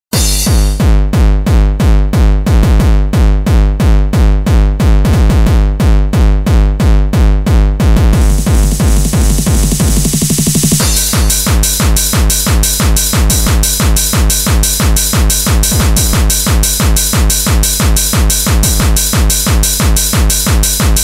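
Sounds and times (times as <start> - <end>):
electronic dance music: 0.1 - 21.0
heavy kick drum: 0.1 - 21.0.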